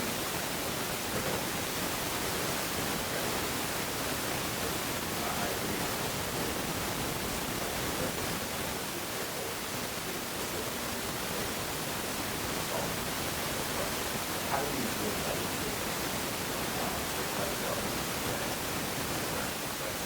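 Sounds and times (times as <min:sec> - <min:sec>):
faint distant voice: 0:00.0 - 0:20.0
loud steady hiss: 0:00.0 - 0:20.0.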